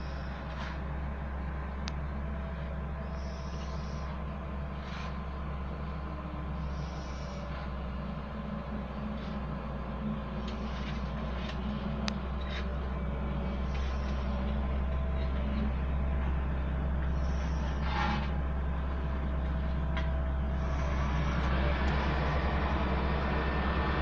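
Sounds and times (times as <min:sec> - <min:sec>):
heavy machinery engine drone: 0:00.0 - 0:24.0.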